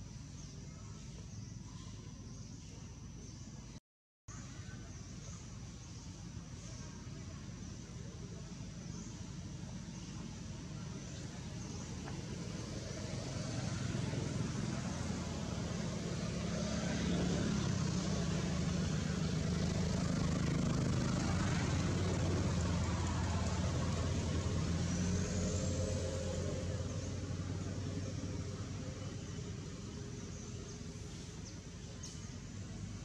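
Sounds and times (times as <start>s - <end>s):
engine humming: 5.4s - 33.0s.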